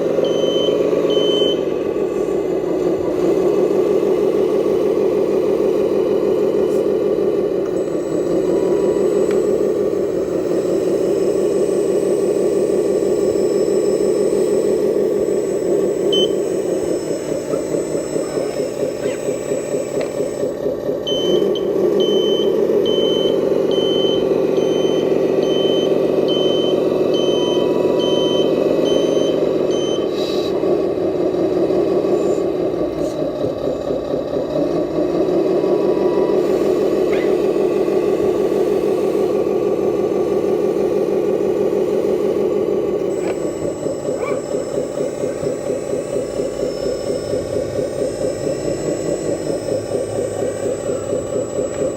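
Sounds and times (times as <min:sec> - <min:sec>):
reversing alarm beeping: 0:00.0 - 0:33.2, 0:35.6 - 0:51.9
simulated diesel engine sound: 0:00.0 - 0:51.9.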